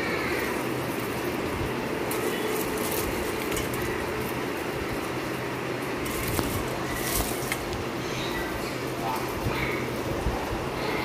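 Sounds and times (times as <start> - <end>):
crisp fried fish crackling: 0.0 - 10.0
background hum and hiss: 0.0 - 11.0.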